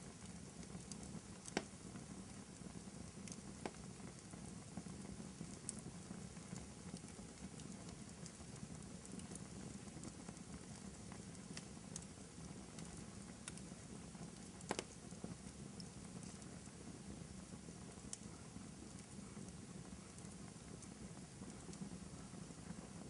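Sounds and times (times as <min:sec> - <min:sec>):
fireplace crackling: 0:00.0 - 0:23.0.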